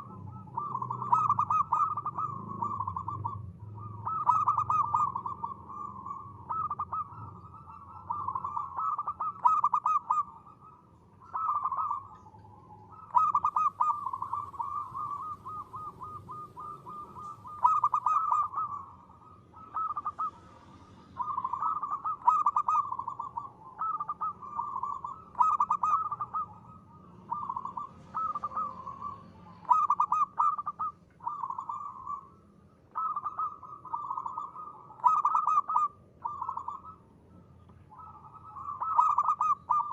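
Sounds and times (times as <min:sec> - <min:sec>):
dove cooing in trills: 0:00.0 - 0:39.9.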